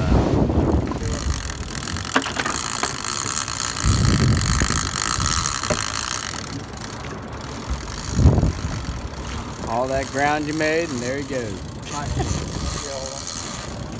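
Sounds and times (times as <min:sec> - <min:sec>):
boat outboard engines rumbling: 0:00.0 - 0:13.9
wind: 0:00.0 - 0:13.9
fishing reel buzzing whine: 0:00.8 - 0:13.9.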